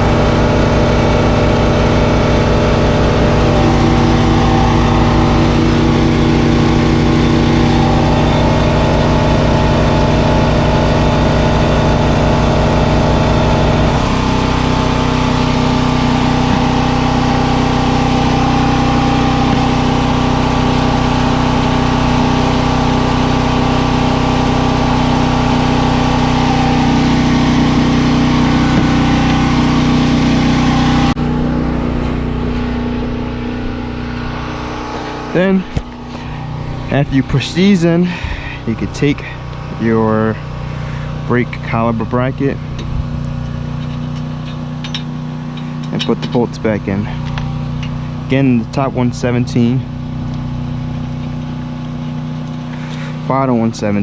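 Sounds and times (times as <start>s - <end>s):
engine running loudly: 0.0s - 54.0s.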